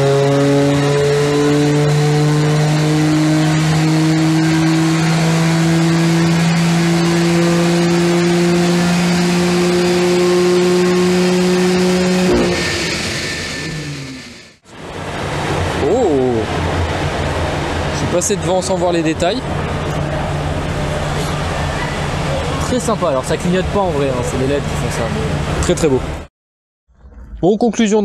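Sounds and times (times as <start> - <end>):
car engine revving at full throttle: 0.0 - 26.3.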